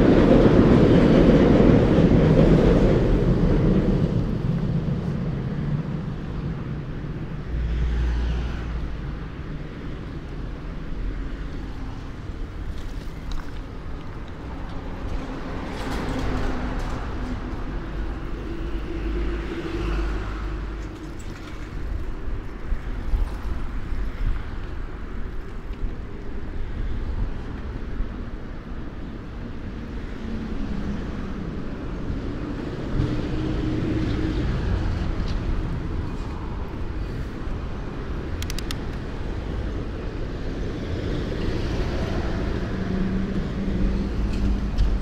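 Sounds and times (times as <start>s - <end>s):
passing vehicles: 0.0s - 45.0s
steady low traffic rumble: 0.0s - 45.0s.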